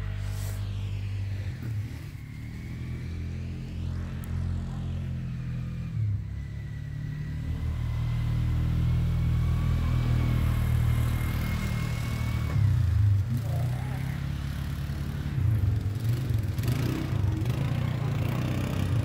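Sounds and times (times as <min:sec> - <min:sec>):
atv engine rumbling: 0:00.0 - 0:19.0
faint high whine: 0:00.0 - 0:19.0.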